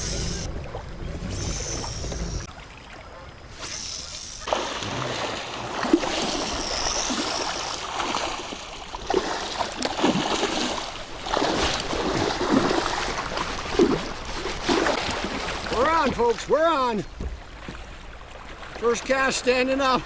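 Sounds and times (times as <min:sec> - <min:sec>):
water splashing around kayak: 0:00.0 - 0:20.0.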